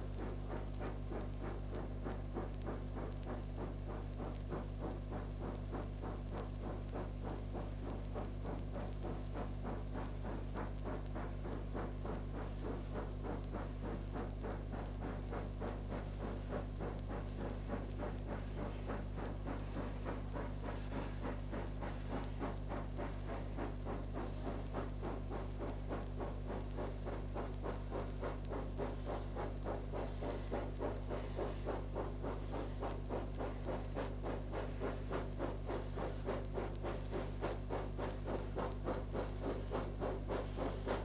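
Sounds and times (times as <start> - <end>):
steady low hum: 0.0 - 41.0
steam locomotive exhaust beats: 0.0 - 41.0.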